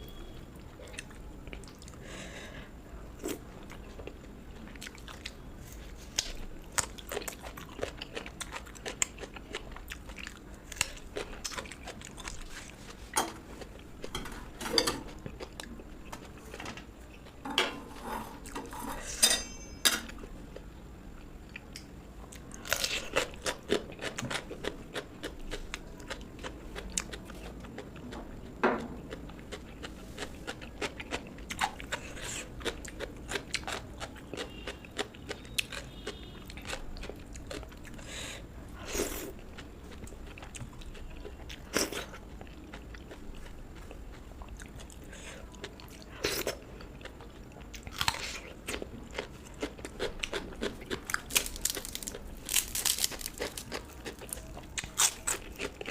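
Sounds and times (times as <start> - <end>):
person chewing food: 0.6 - 2.3, 3.2 - 38.2, 38.8 - 55.9.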